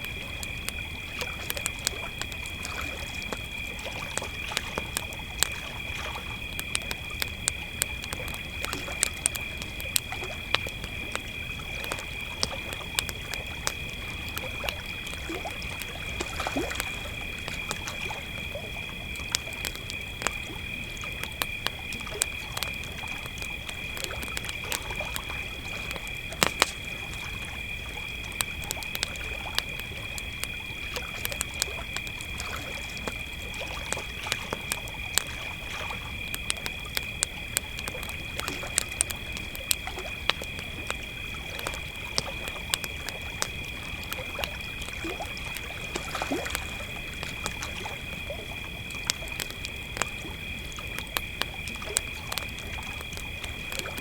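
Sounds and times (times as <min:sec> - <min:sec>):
campfire crackling with pops: 0:00.0 - 0:54.0
crickets chirring: 0:00.0 - 0:54.0.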